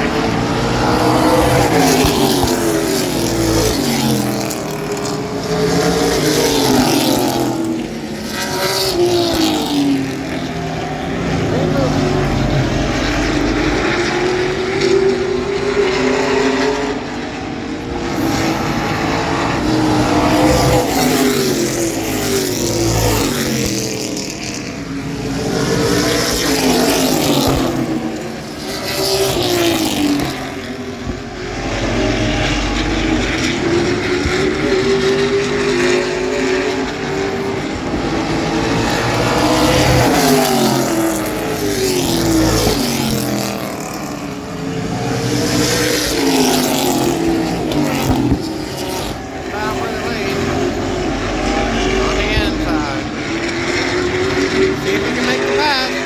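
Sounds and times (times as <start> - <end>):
race truck engines passing: 0.0 - 56.0.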